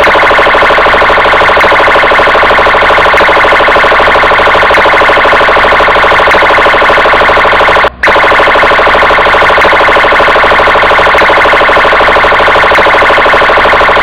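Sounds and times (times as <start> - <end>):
police siren warbling: 0.0 - 14.0.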